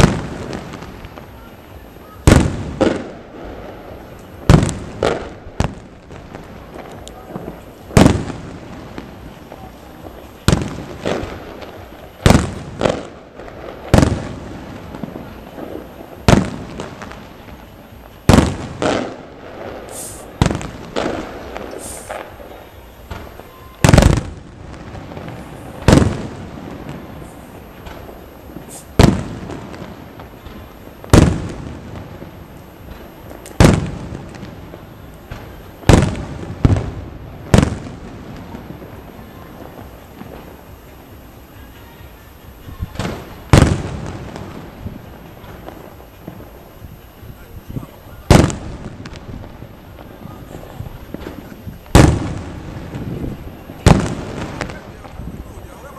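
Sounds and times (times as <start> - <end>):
firework bangs: 0.0 - 55.9
firework crackling: 0.0 - 55.9.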